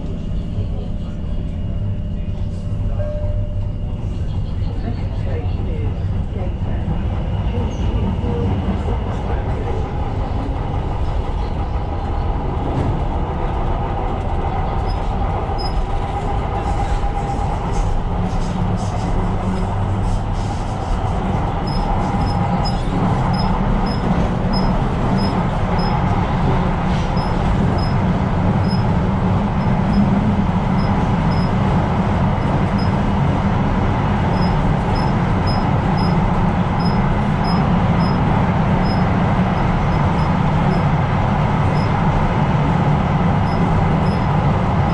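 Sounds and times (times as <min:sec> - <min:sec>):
train rumbling on rails: 0:00.0 - 0:44.9.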